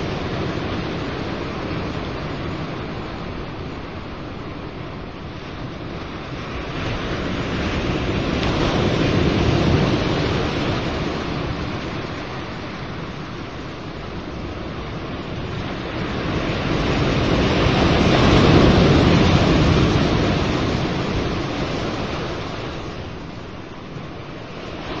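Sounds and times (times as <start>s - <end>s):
ocean wave washing in and out: 0.0s - 25.0s.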